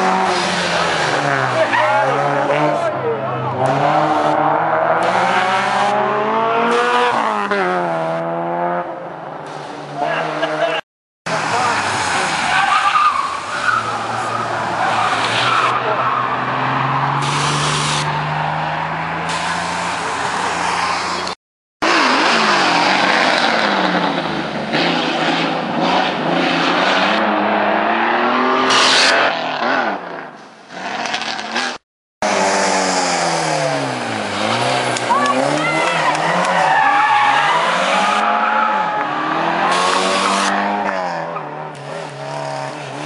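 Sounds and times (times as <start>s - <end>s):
rally car engines revving: 0.0s - 43.0s.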